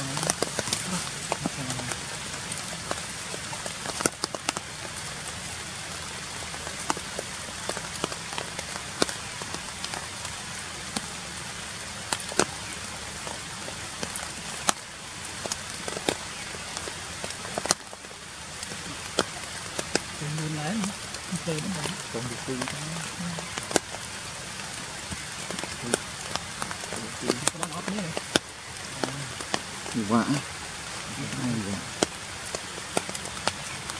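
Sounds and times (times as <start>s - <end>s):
rain hissing: 0.0s - 33.9s
raindrops ticking: 0.0s - 33.9s.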